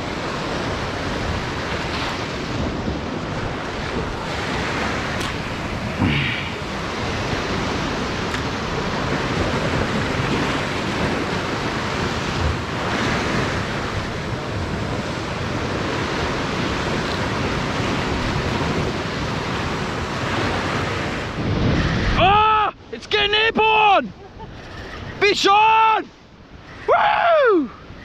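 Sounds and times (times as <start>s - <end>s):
wind buffeting microphone: 0.0s - 25.4s
ocean surf rushing: 0.0s - 28.0s.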